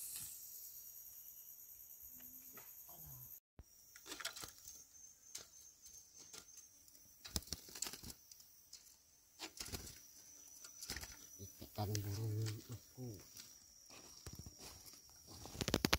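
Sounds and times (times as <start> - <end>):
high insect drone: 0.0 - 15.9.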